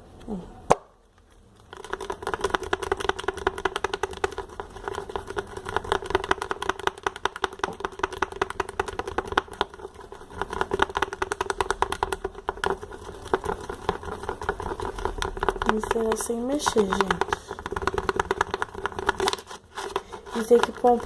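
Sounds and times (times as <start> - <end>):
utensil scraping plastic pot: 1.2 - 21.0.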